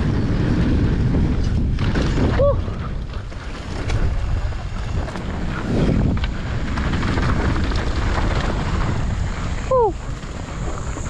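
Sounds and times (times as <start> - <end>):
bike clicks and rattles: 0.0 - 11.0
bike tyres rumbling on dirt: 0.0 - 11.0
wind on microphone: 0.0 - 11.0.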